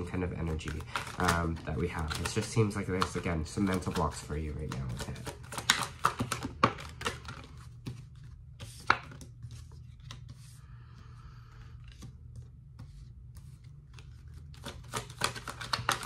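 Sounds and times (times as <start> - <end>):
low steady hum: 0.0 - 16.0
cards snapping and tapping: 0.4 - 8.0, 8.6 - 10.4, 11.8 - 16.0.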